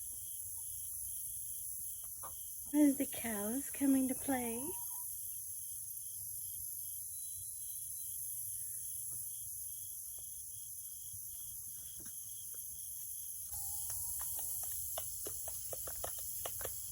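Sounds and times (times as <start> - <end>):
constant high hiss: 0.0 - 16.9
insects chirping: 0.0 - 16.9.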